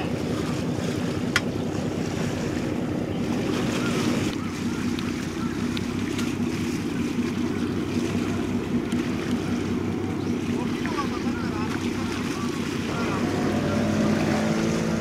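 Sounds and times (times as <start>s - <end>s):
sea water washing on shore: 0.0s - 15.0s.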